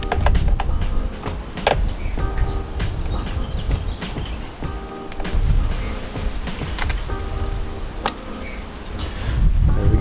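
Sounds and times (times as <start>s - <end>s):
background music with low beat: 0.0s - 10.0s.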